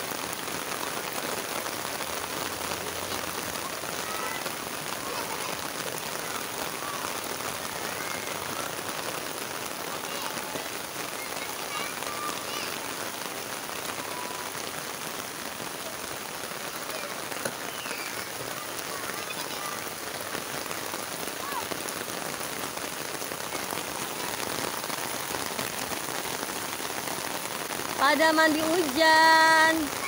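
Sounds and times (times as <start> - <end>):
rain on pavement: 0.0 - 30.0.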